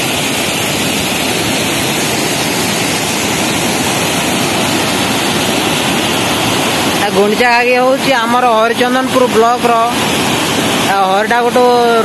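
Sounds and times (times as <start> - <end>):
waterfall and rapids rushing: 0.0 - 12.0.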